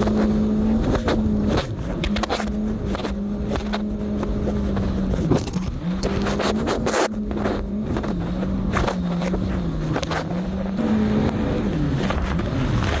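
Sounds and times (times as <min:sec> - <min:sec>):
jet ski engine drone: 0:00.0 - 0:13.0.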